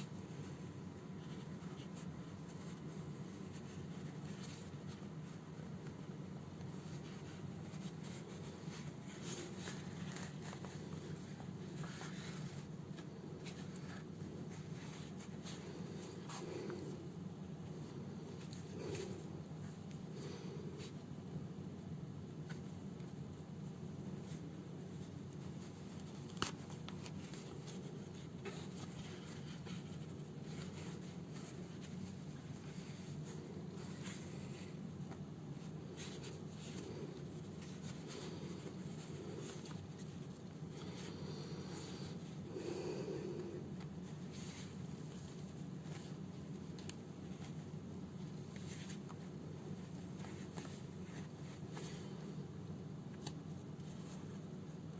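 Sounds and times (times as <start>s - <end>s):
needle and thread through fabric: 0.0s - 21.1s, 22.4s - 54.9s.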